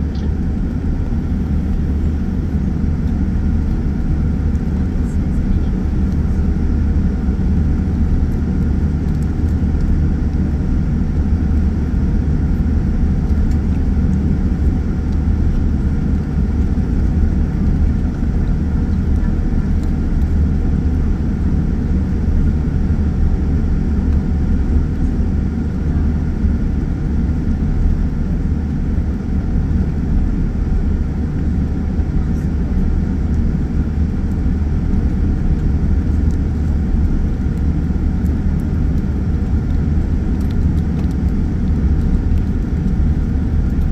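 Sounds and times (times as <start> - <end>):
faint steady hum: 0.0 - 43.9
low rumble of jet engines: 0.0 - 43.9.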